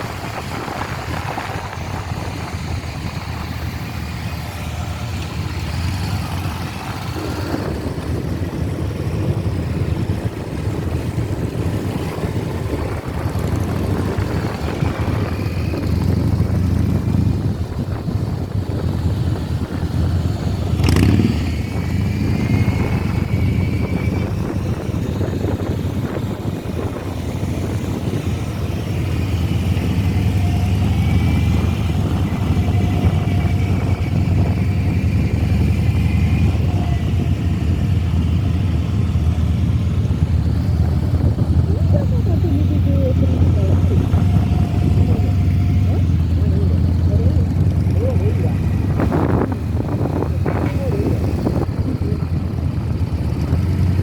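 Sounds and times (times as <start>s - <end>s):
motorcycle engines droning: 0.0s - 54.0s.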